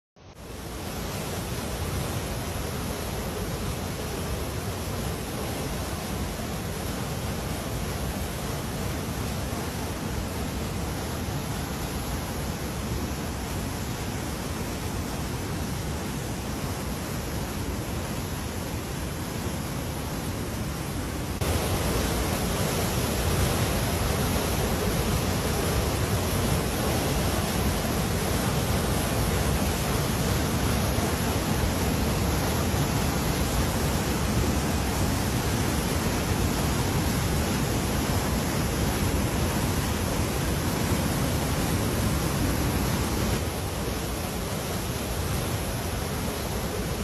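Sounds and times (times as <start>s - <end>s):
floodwater rushing: 0.4s - 47.0s.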